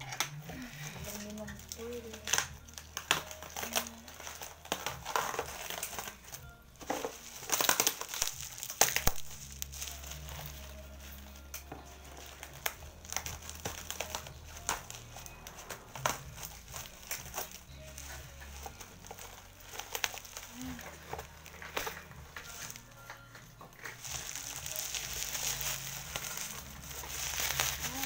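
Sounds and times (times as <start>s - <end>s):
bubble wrap crinkling: 0.0s - 28.0s
scissors cutting plastic: 0.0s - 28.0s.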